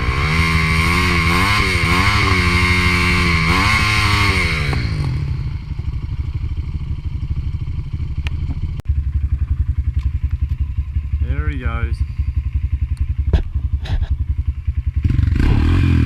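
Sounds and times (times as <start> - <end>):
dirt bike engine revving and idling: 0.0 - 16.0.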